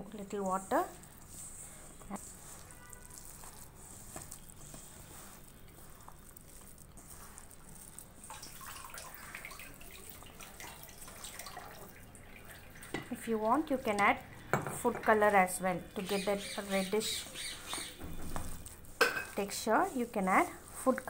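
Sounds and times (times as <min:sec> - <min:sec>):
hand squishing wet dough: 0:00.0 - 0:14.4, 0:15.1 - 0:21.0.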